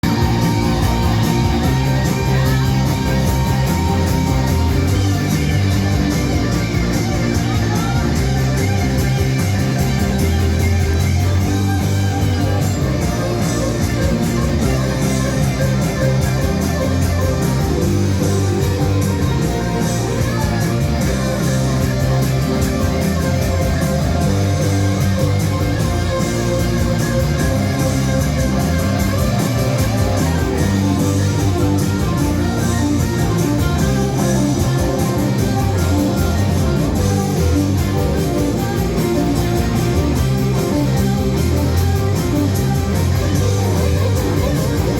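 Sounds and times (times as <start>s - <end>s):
guitar rock music: 0.0s - 44.9s.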